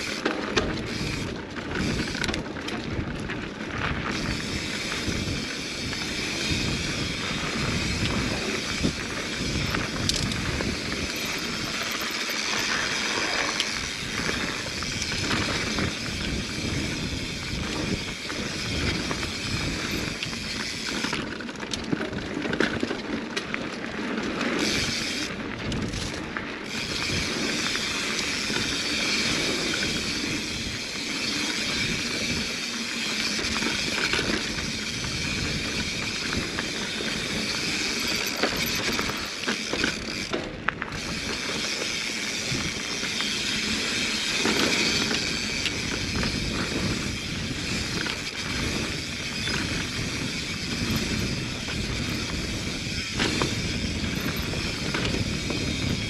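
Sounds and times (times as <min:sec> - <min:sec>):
bike clicks and rattles: 0:00.0 - 0:56.0
tyre noise and wind rush: 0:00.0 - 0:56.0.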